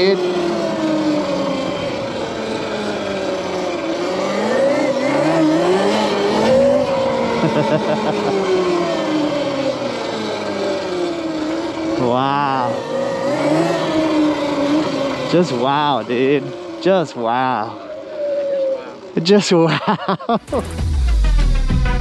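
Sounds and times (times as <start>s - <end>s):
electric motor whining: 0.0s - 19.7s.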